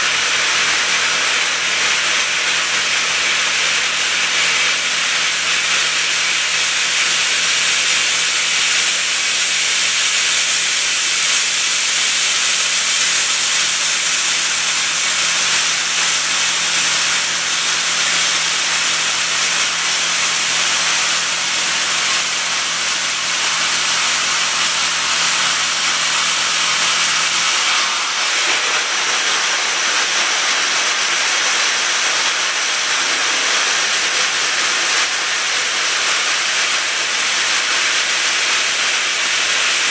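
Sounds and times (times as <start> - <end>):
cutting tool hissing: 0.0 - 39.9.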